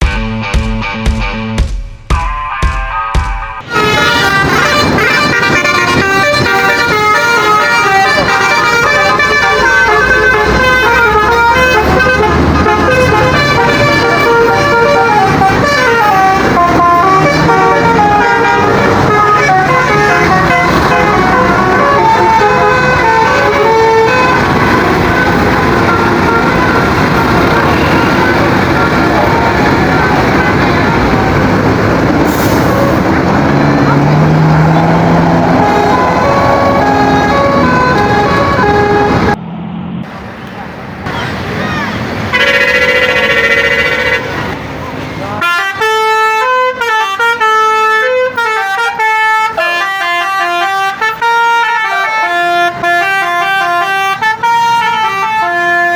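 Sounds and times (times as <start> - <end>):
musical air horns playing a tune: 3.6 - 31.6, 32.2 - 33.2, 34.2 - 39.4, 42.3 - 44.6, 45.4 - 55.9.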